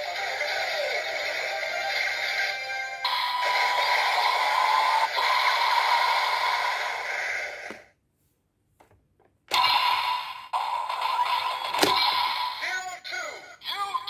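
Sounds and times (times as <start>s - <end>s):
toy belt electronic sound effects: 0.0s - 7.8s, 9.5s - 14.0s.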